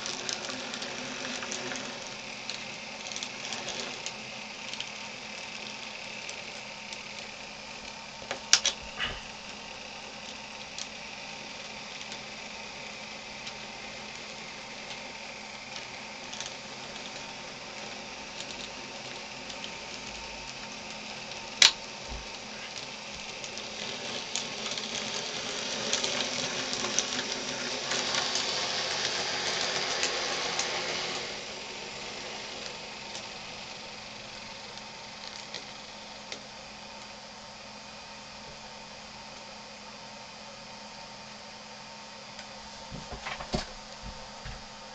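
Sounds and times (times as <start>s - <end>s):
wheels on rails: 0.0s - 37.2s
model train motor whirr: 0.0s - 42.6s.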